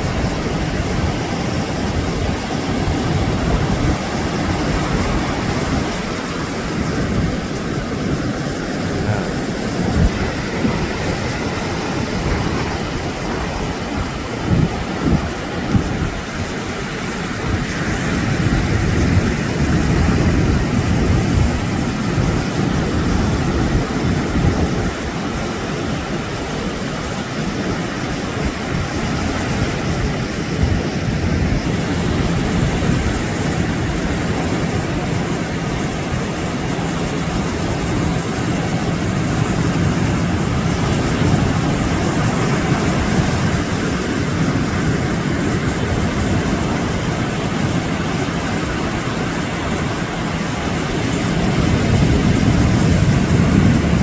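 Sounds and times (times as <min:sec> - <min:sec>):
surf hissing: 0:00.0 - 0:54.0
wind buffeting microphone: 0:00.0 - 0:54.0.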